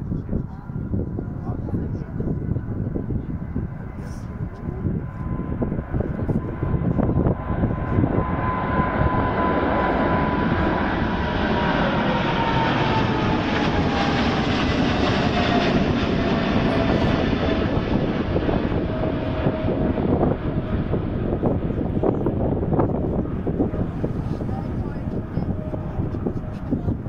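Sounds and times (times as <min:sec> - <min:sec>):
jet engine noise with whine: 0:00.0 - 0:27.0.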